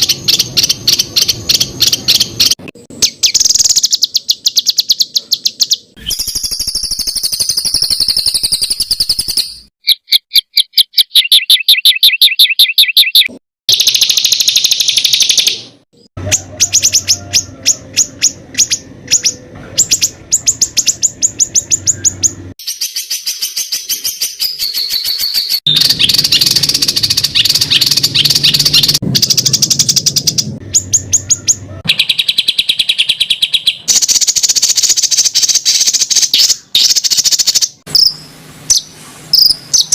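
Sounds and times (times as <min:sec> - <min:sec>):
songbird harsh repeated notes: 0:00.0 - 0:39.9.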